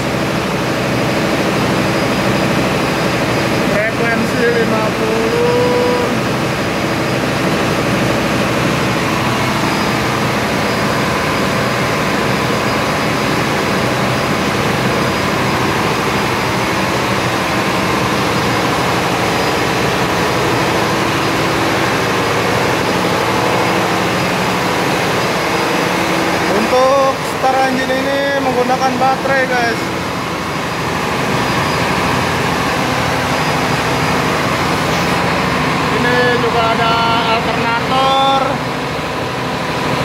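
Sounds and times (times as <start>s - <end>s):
diesel generator droning: 0.0s - 40.0s.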